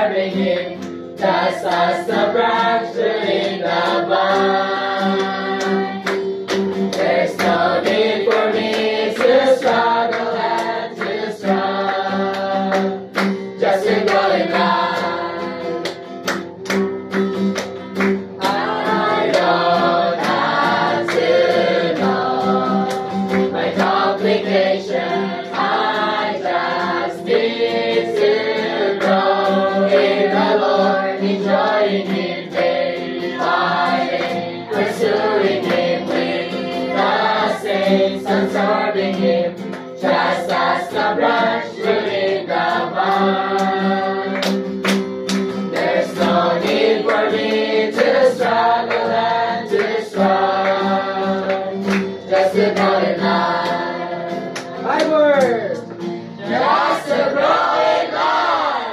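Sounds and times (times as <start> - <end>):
group singing: 0.0 - 55.0, 56.0 - 58.9
strummed acoustic guitar: 0.0 - 58.9.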